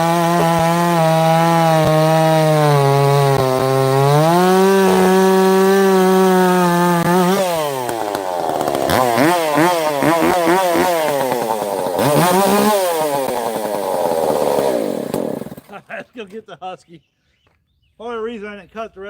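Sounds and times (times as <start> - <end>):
chainsaw revving: 0.0 - 15.9.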